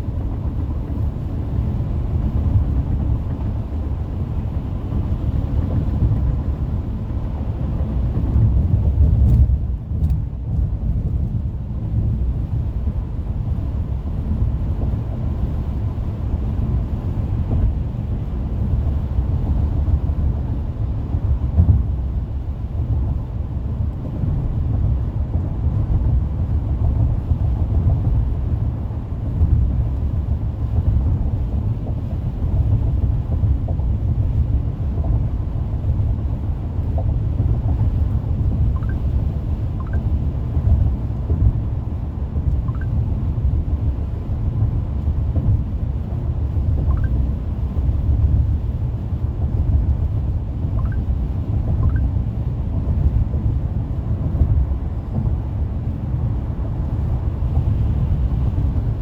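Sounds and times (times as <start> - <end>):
road and tyre rumble: 0.0 - 59.0.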